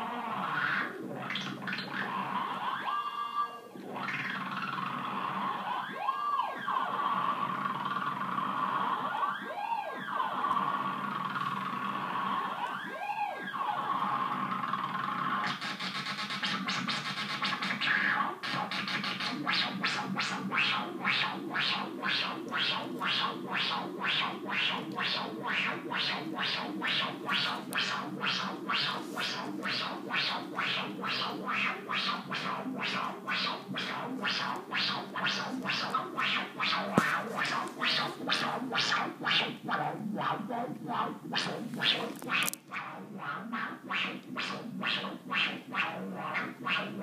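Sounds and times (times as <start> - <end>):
chaotic synthesizer pulses: 0.0 - 47.0.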